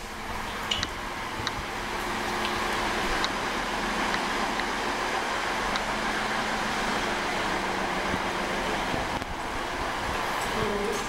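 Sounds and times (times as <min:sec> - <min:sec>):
diesel train engine humming: 0:00.0 - 0:11.0.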